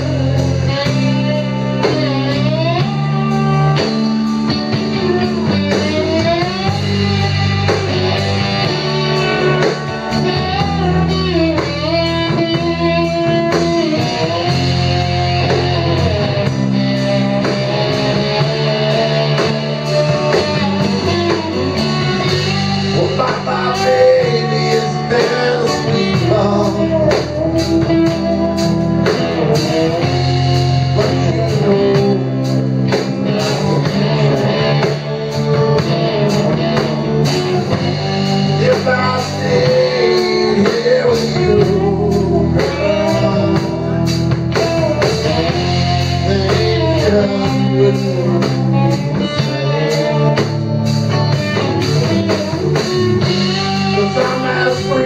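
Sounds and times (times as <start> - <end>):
bass guitar: 0.0 - 55.0
drum kit: 0.0 - 55.0
electric guitar lead line: 0.0 - 55.0.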